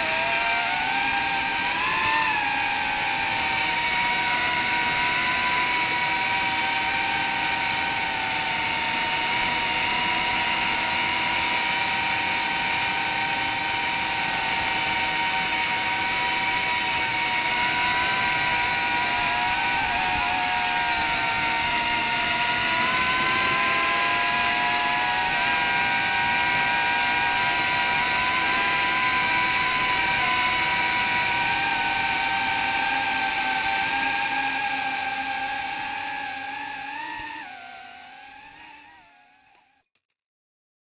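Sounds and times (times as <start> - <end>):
drone motors whining: 0.0 - 39.8.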